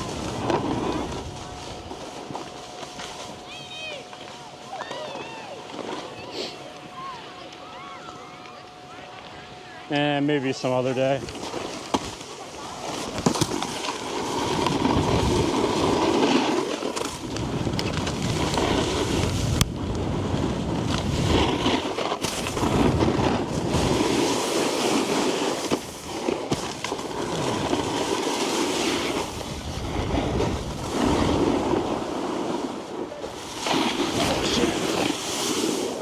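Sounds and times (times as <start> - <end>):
snowboard scraping over snow: 0.0 - 36.0.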